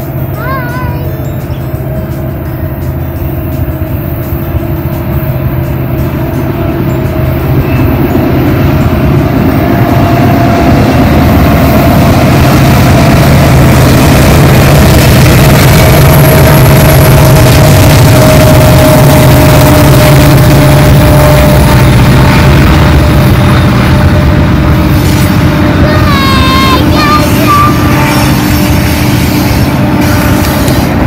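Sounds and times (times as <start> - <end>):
diesel locomotive running: 0.0 - 31.0
freight cars rolling on rails: 0.0 - 31.0.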